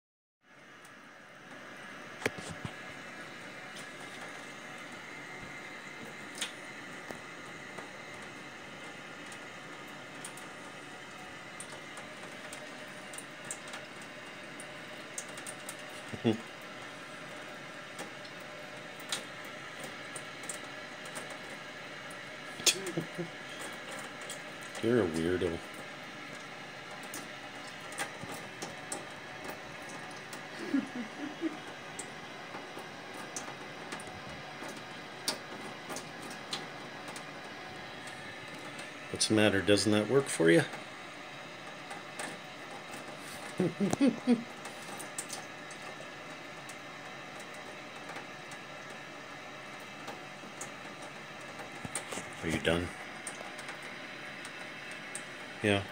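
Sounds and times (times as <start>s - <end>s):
faint ticks and splashes: 3.5s - 55.9s.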